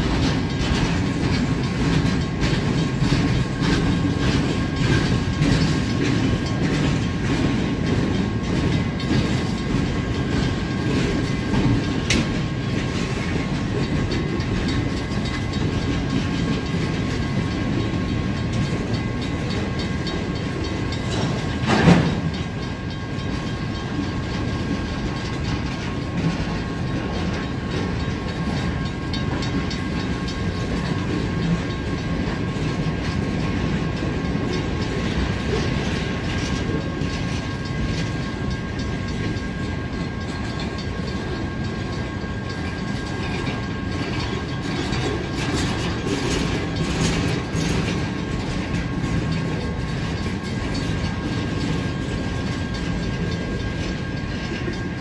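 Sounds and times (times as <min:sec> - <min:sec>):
sharp train clatter: 0:00.0 - 0:55.0
train wheels rumbling on rail: 0:00.0 - 0:55.0.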